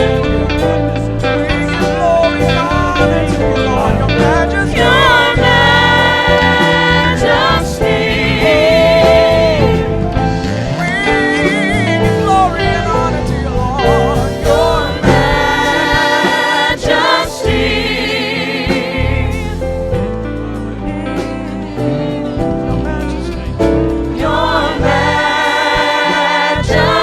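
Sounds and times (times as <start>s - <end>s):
gospel worship singing: 0.0s - 27.0s
instrumental accompaniment: 0.0s - 27.0s.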